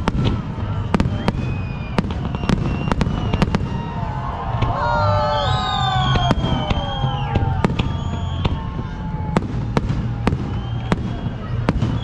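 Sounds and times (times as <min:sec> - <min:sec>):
fireworks bangs: 0:00.0 - 0:12.0
descending whistling tones: 0:00.6 - 0:09.4, 0:10.2 - 0:12.0.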